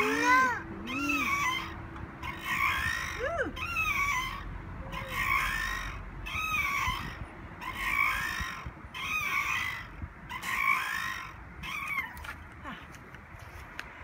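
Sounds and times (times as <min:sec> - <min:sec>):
metal swing set squeaking: 0:00.0 - 0:12.2.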